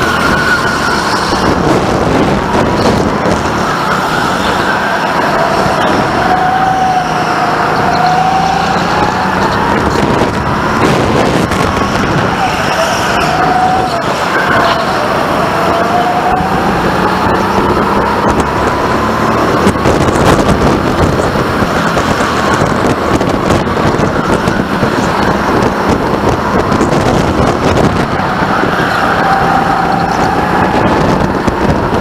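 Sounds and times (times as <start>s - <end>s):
engine whine rising in pitch: 0.0s - 32.0s
go-kart engine running: 0.0s - 32.0s.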